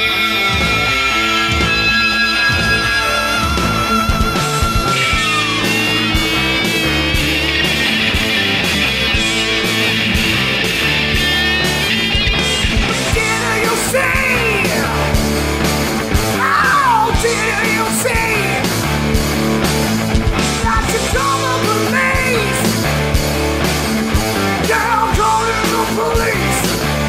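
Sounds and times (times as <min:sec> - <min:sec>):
rock music with drum beat: 0:00.0 - 0:27.0.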